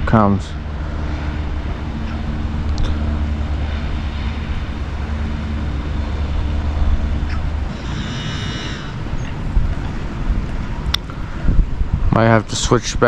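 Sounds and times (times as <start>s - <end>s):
distant engine rumble: 0.0s - 13.0s
faint constant hum: 0.0s - 13.0s.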